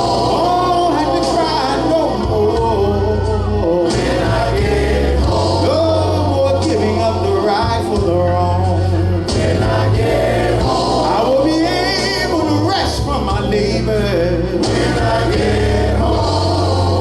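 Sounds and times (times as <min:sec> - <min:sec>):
man singing lead: 0:00.0 - 0:10.0, 0:10.6 - 0:17.0
choir singing: 0:00.0 - 0:13.5, 0:14.4 - 0:17.0
steady bass accompaniment: 0:00.0 - 0:17.0.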